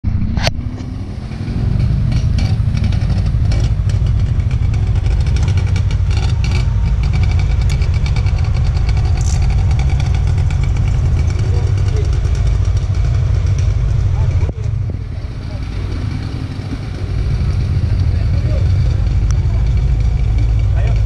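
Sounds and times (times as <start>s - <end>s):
motorcycle engines idling: 0.1s - 21.0s.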